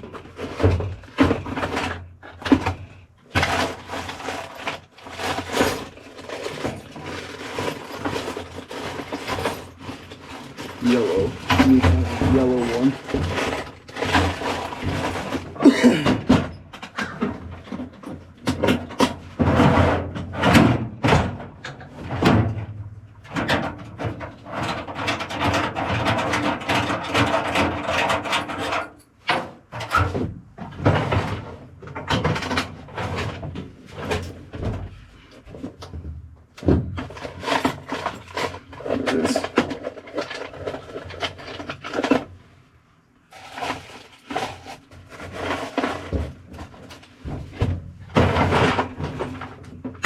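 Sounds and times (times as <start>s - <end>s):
tools knocking and clattering: 0.0s - 42.3s, 45.1s - 50.0s.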